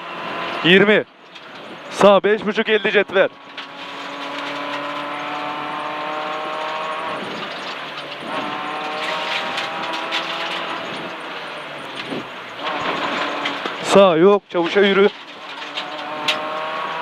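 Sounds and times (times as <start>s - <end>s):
car engine revving: 0.0s - 14.0s, 14.6s - 17.0s
road and tyre noise: 0.0s - 17.0s.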